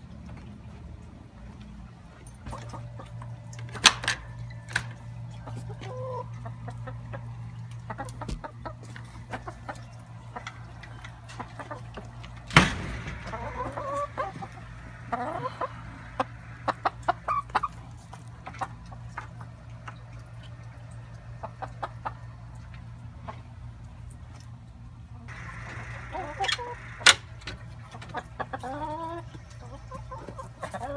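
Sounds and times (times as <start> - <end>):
chickens clucking: 2.4 - 24.5, 25.3 - 30.9.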